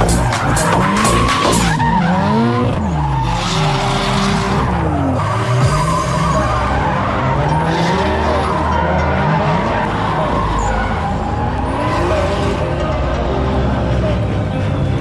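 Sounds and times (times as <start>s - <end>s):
car engine revving: 0.0s - 15.0s
tyres squealing and skidding: 0.0s - 15.0s.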